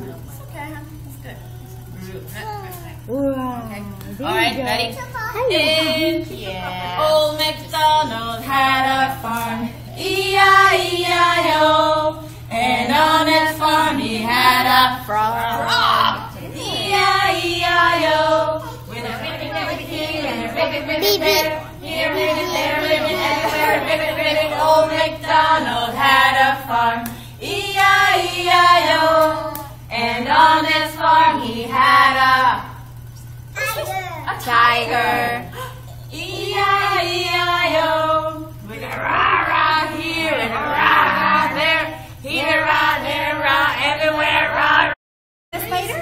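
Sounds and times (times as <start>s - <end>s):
women singing unaccompanied: 5.4s - 33.0s, 34.4s - 45.0s.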